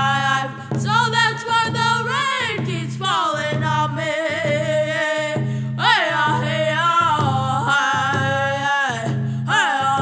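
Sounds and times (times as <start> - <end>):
boys singing: 0.0 - 10.0
hand drums beating: 0.0 - 10.0.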